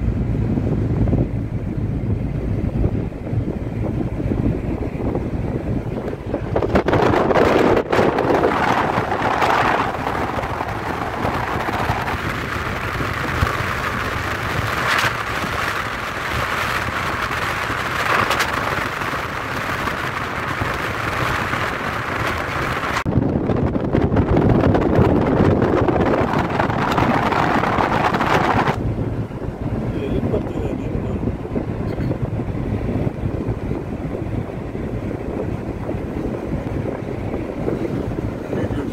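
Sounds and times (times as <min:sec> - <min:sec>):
car road noise: 0:00.0 - 0:38.9
wind rushing over microphone: 0:00.0 - 0:38.9.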